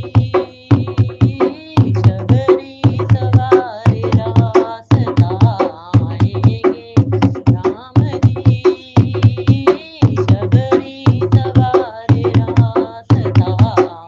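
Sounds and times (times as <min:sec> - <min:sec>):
fast hand drum beat: 0:00.0 - 0:14.0
person singing devotional song: 0:00.0 - 0:14.0.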